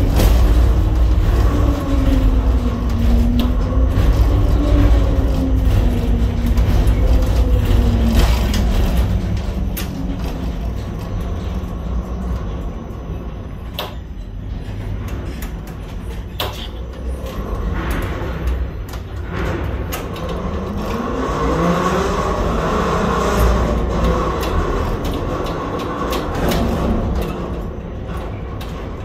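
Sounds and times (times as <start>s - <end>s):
crane hoist machinery rumbling: 0.0s - 29.0s.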